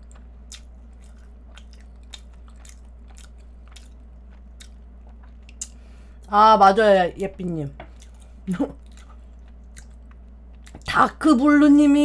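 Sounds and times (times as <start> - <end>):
chewing pastry crackles: 0.0 - 6.4, 7.3 - 11.0
low steady hum: 0.0 - 12.0.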